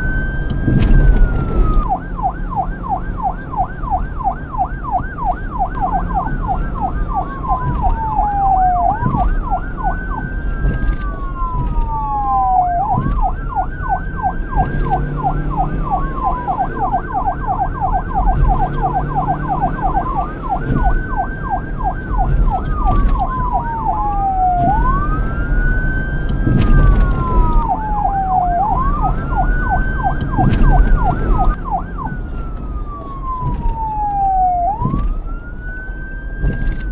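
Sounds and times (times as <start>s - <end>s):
police siren wailing: 0.0s - 36.9s
police siren yelping: 0.0s - 36.9s.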